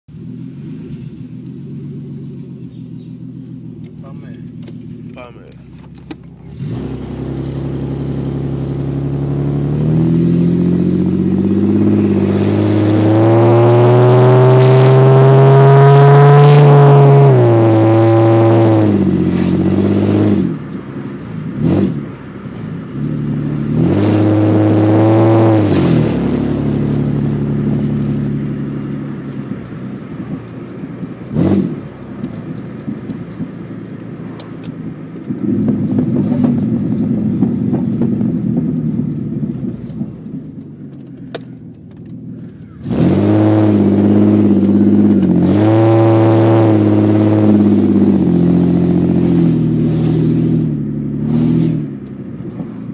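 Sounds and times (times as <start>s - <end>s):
loud car engine revving: 4.8s - 40.4s, 42.3s - 52.9s.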